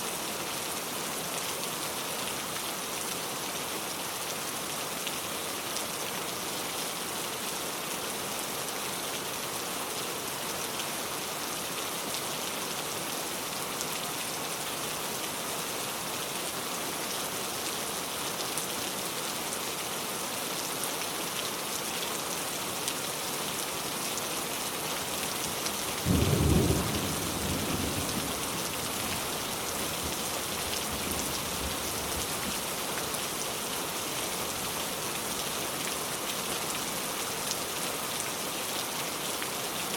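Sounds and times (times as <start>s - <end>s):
rain falling on a car: 0.0s - 39.9s.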